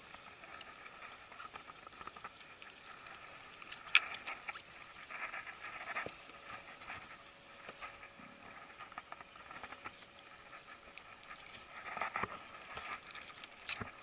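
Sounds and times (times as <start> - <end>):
faint steady high hum: 0.0 - 14.0
fishing gear clicks and rustles: 0.1 - 7.8, 8.5 - 14.0.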